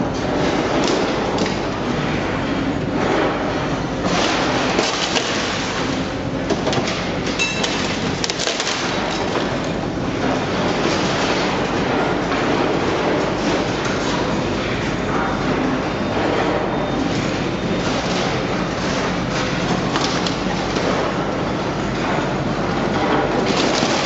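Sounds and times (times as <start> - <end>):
heavy machinery running: 0.0 - 24.0.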